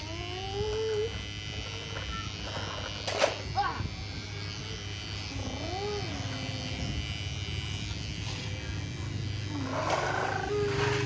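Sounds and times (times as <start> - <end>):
steady electric buzz: 0.0 - 11.0.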